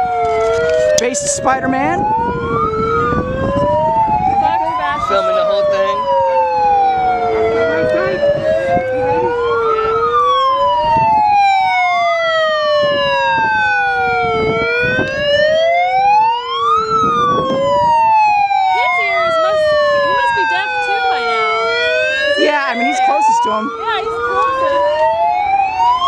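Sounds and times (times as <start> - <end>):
megaphone sirens wailing: 0.0 - 26.0.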